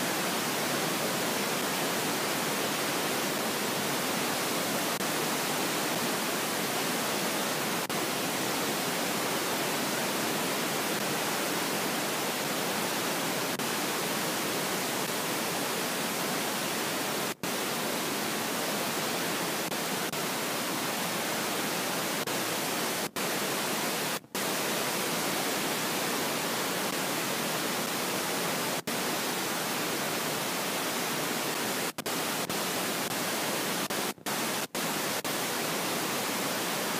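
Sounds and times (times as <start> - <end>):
static hiss: 0.0 - 36.9.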